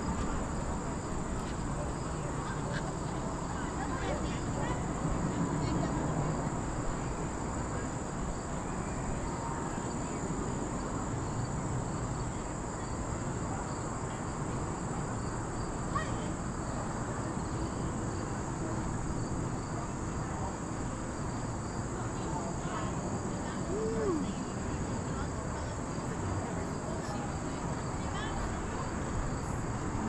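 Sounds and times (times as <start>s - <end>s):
chorus of insects: 0.0s - 30.0s.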